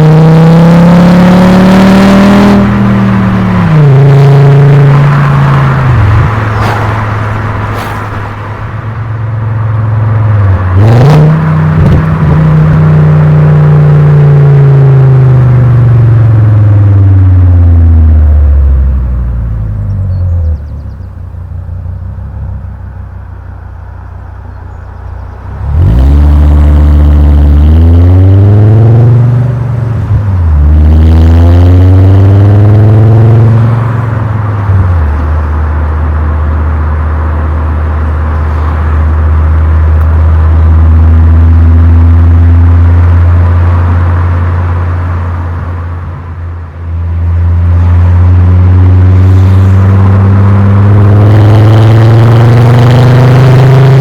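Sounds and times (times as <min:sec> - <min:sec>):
car engine and exhaust accelerating: 0:00.0 - 0:54.0.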